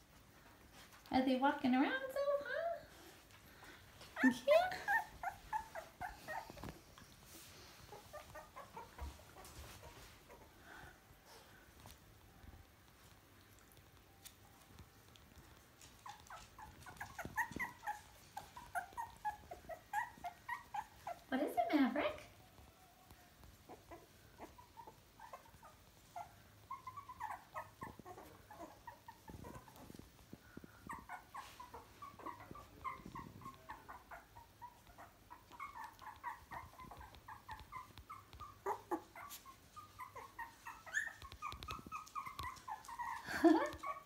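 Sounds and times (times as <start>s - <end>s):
puppies whimpering and squeaking: 1.8s - 12.6s, 13.6s - 44.0s.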